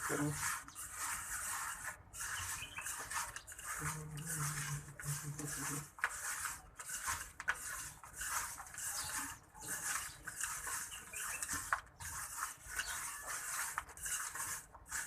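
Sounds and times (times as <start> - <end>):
hand rubbing and scraping mixture: 0.0 - 15.0.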